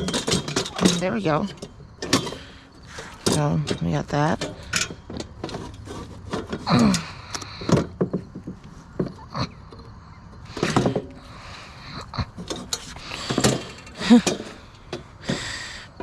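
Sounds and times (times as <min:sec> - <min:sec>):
knocks and clatter of metal and wood: 0:00.0 - 0:16.0.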